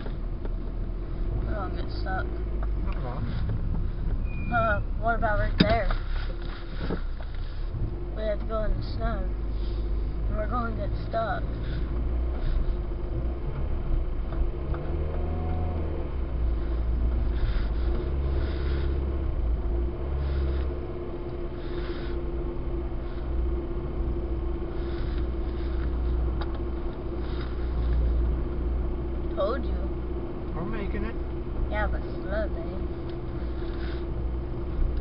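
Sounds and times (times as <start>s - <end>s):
car engine running: 0.0s - 35.0s
road rumble: 0.0s - 35.0s.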